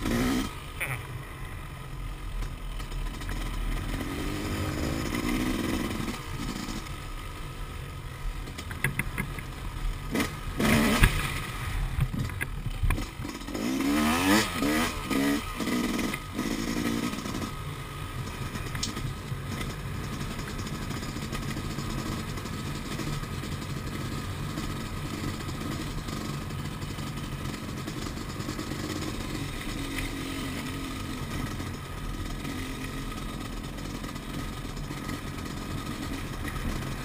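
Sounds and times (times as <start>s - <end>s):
dirt bike engine revving: 0.0s - 1.1s, 2.7s - 7.1s, 10.0s - 37.0s.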